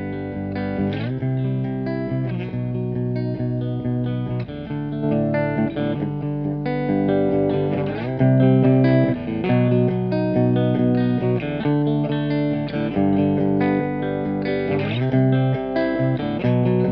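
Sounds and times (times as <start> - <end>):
electric guitar chords with chorus: 0.0 - 16.9.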